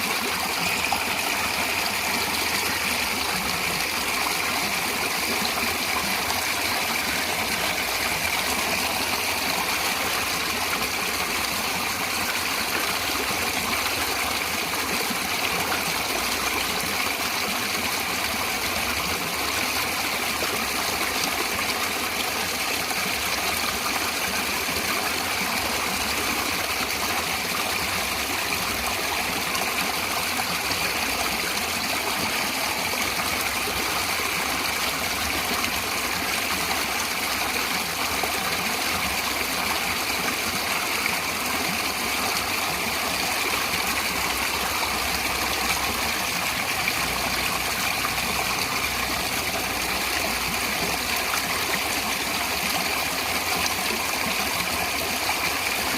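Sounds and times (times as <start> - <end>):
running water flowing: 0.0 - 55.9.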